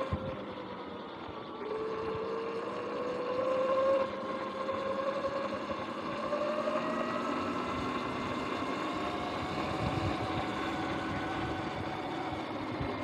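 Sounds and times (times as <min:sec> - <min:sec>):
electric dirt bike whining: 0:00.0 - 0:13.0
road noise: 0:02.3 - 0:13.0.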